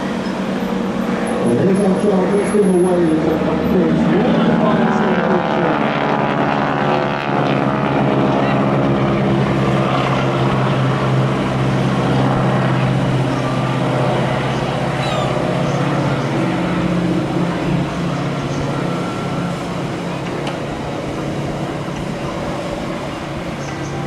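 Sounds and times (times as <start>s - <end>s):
biplane engine and propeller: 0.0s - 24.0s.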